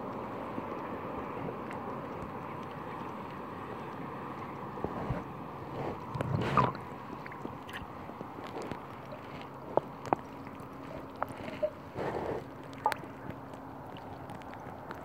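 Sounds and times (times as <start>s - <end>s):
lapping water: 0.0s - 15.0s.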